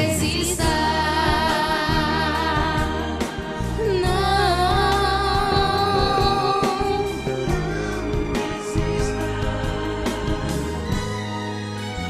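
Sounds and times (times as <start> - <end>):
person singing with vibrato: 0.0 - 11.3
band accompaniment: 0.0 - 12.0.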